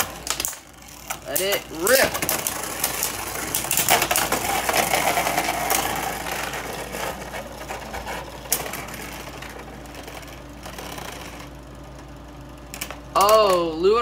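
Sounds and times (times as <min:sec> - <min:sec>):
spinning tops rattling: 0:00.0 - 0:11.6
spinning tops whine: 0:00.0 - 0:14.0.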